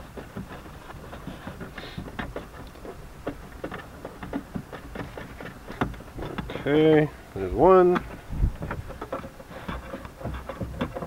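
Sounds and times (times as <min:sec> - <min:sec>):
wing nut clicking and scraping: 0:00.0 - 0:11.0.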